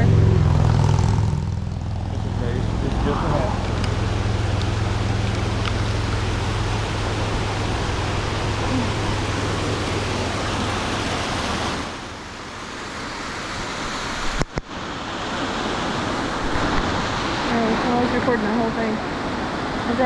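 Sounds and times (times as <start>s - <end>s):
mountain stream rushing: 0.7s - 20.0s.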